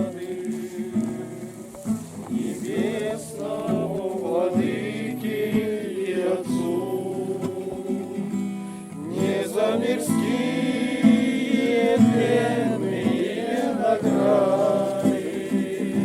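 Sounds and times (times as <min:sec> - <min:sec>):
group singing a hymn: 0:00.0 - 0:16.0.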